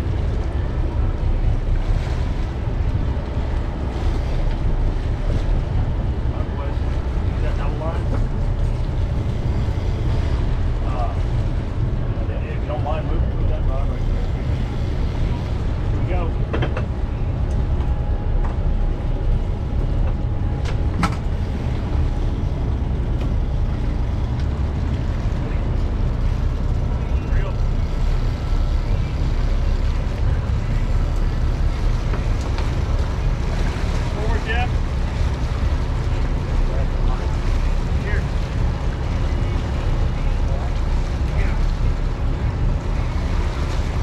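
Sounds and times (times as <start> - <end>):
boat engines running: 0.0 - 44.0
water churning: 0.0 - 44.0
wind buffeting microphone: 0.0 - 44.0.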